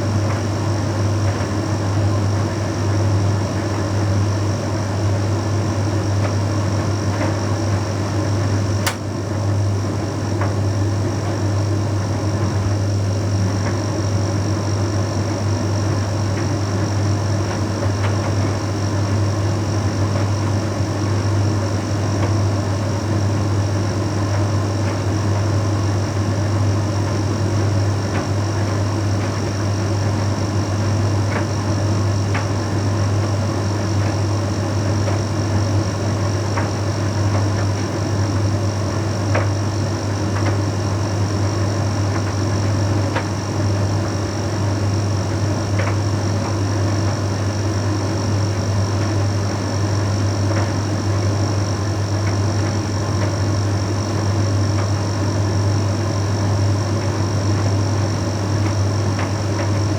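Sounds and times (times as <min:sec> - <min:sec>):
tumble dryer humming: 0:00.0 - 0:59.9.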